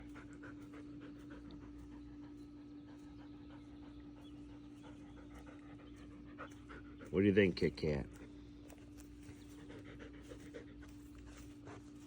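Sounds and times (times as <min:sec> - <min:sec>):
dog panting: 0:00.0 - 0:12.0
faint steady hum: 0:00.0 - 0:12.0.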